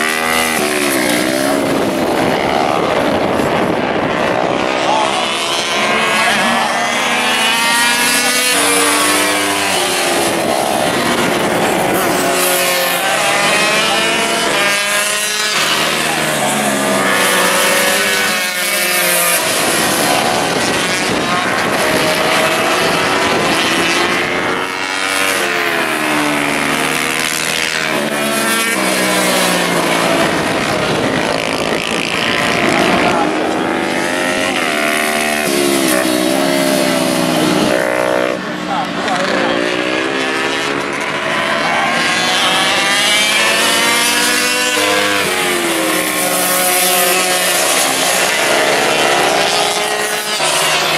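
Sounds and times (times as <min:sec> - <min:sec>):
racing motorcycles passing: 0:00.0 - 0:50.9.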